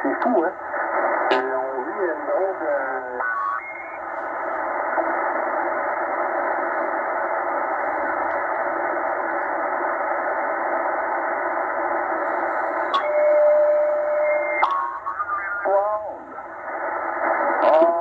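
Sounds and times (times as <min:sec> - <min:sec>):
radio band noise hiss: 0:00.0 - 0:18.0.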